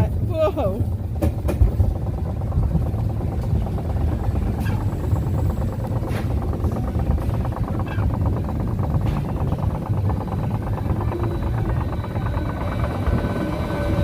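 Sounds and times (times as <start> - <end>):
roller coaster rumbling on track: 0.0 - 14.0
fast even rattle: 1.1 - 14.0.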